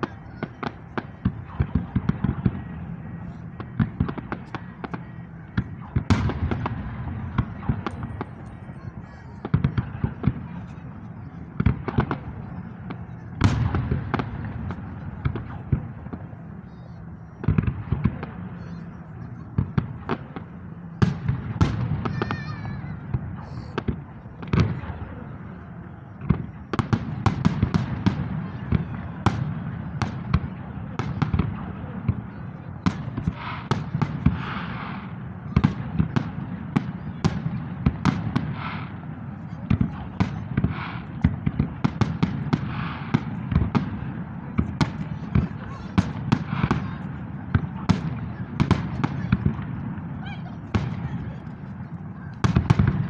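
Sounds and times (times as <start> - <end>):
firework bangs: 0.0 - 53.0.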